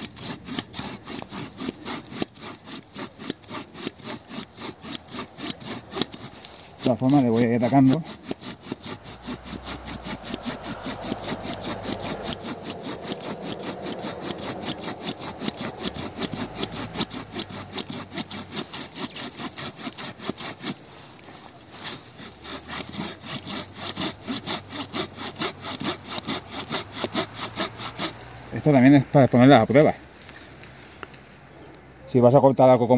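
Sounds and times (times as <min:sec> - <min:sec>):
hand saw cutting through log: 0:00.0 - 0:31.4.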